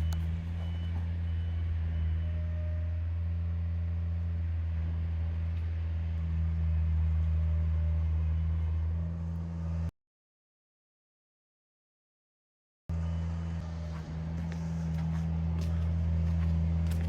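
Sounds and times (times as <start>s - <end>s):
vehicle engine humming: 0.0s - 9.9s, 12.9s - 17.0s.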